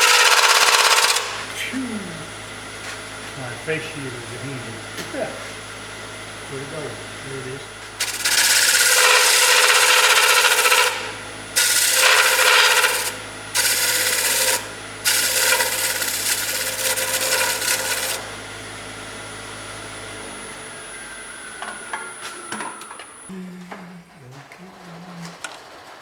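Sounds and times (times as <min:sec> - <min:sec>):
turning tool cutting wood: 0:00.0 - 0:02.3, 0:03.3 - 0:23.3
lathe spinning down whine: 0:00.0 - 0:23.3
wood lathe motor hum: 0:00.0 - 0:23.8.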